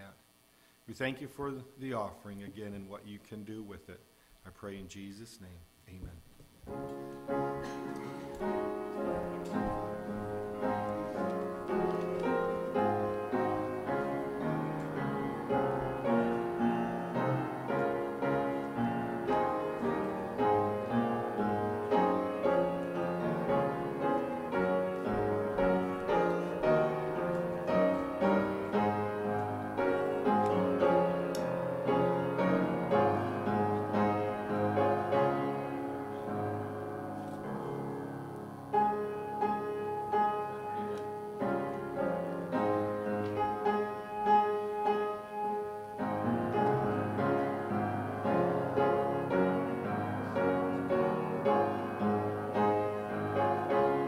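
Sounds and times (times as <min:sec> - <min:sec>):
slow piano chords: 0:06.7 - 0:54.0.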